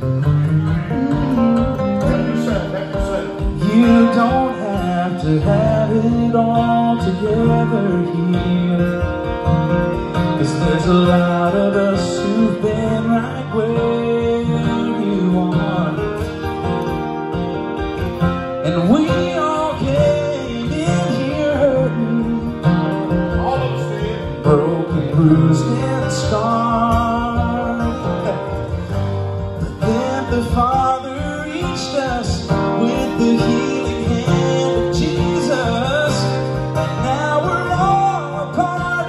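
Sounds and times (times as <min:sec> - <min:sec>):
acoustic guitar: 0:00.0 - 0:39.0
men singing: 0:01.1 - 0:09.2, 0:10.4 - 0:16.1, 0:18.6 - 0:28.9, 0:29.6 - 0:39.0.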